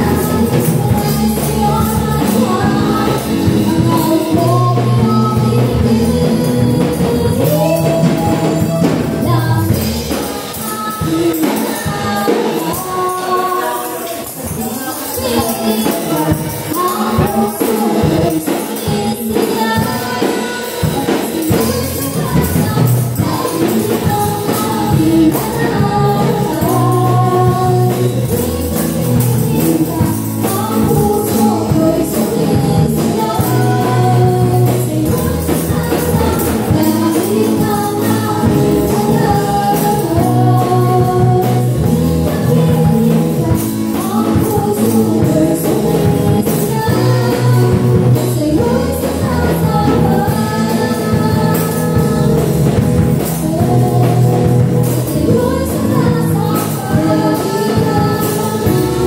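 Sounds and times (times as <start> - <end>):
band with drum kit: 0.0 - 59.0
tambourines jingling: 0.0 - 59.0
voices singing gospel: 0.0 - 59.0.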